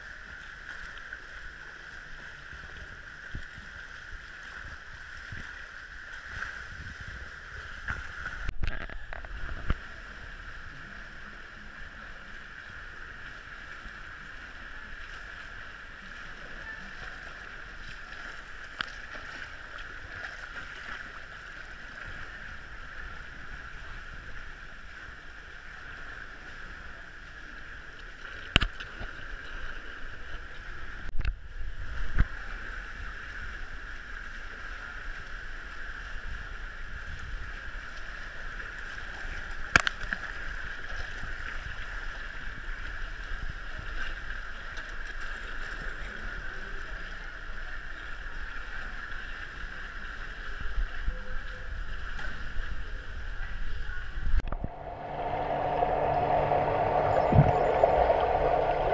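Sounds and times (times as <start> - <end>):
muffled water noise: 0.0 - 45.2, 50.8 - 58.9.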